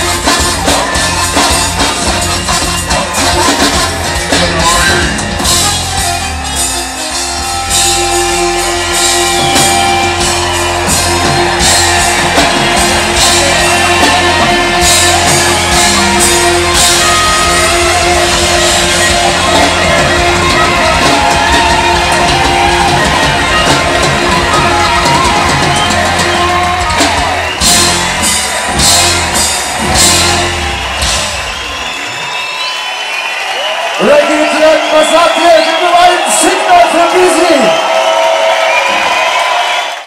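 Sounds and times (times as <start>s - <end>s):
live reggae band playing: 0.0s - 37.1s.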